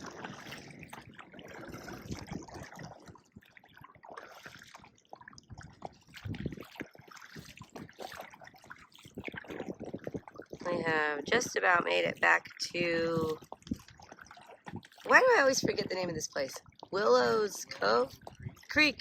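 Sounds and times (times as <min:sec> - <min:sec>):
paddle splashes: 0:00.0 - 0:19.0
water trickling and dripping: 0:00.0 - 0:19.0.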